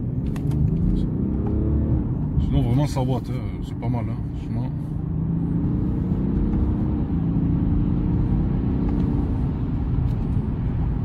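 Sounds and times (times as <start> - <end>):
diesel engine accelerating: 0.0 - 11.0
tyre and road rumble: 0.0 - 11.0.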